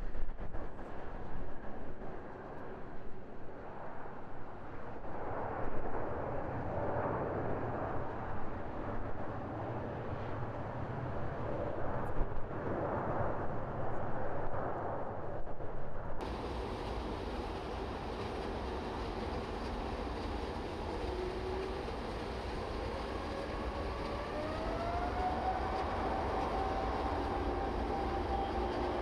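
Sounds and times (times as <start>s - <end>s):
jet engine noise: 0.0s - 29.0s.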